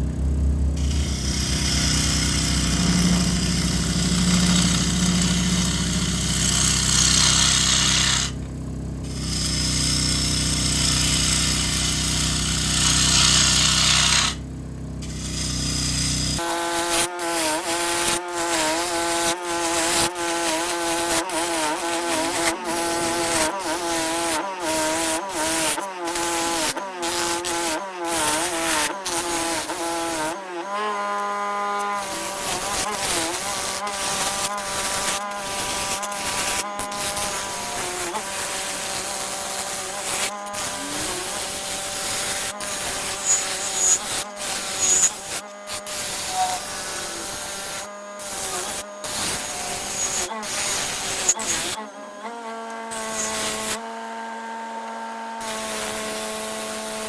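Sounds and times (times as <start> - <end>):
power tool running on wood: 0.0 - 57.0.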